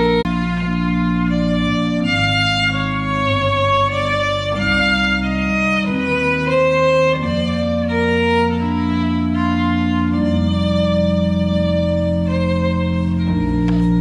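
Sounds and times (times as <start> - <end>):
sustained low accompanying notes: 0.0 - 14.0
violin melody: 0.0 - 14.0.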